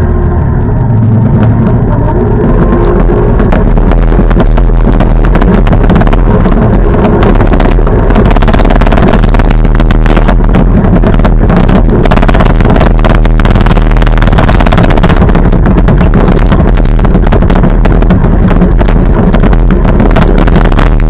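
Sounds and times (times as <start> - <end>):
tractor engine running loudly: 0.0 - 21.0.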